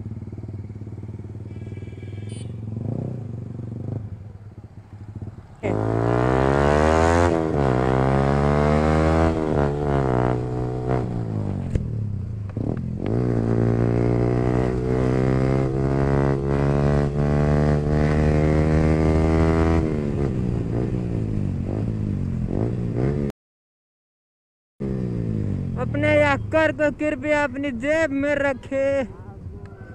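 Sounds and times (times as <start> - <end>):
motorcycle engine accelerating: 0.0 - 23.3, 24.8 - 28.3.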